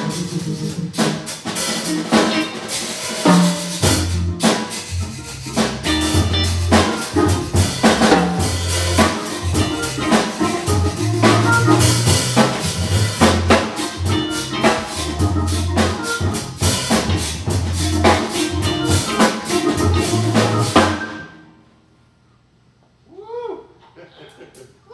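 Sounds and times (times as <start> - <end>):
drum kit beat: 0.0 - 21.3
electric guitar: 0.0 - 21.4
organ bass line: 0.0 - 21.5.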